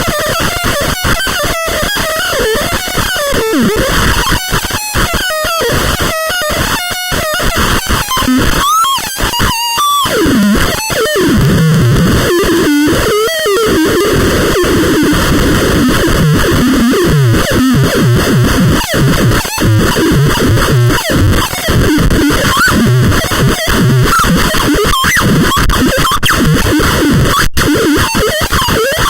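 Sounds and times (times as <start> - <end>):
harsh electronic noise music: 5.6 - 29.0.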